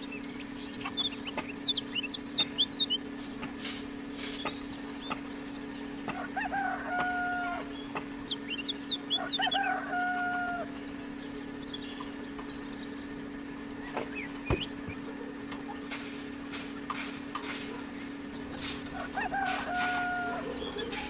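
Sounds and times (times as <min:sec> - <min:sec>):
bird calling: 0:00.0 - 0:03.2, 0:04.0 - 0:16.0, 0:16.9 - 0:21.0
steady low hum: 0:00.0 - 0:21.0.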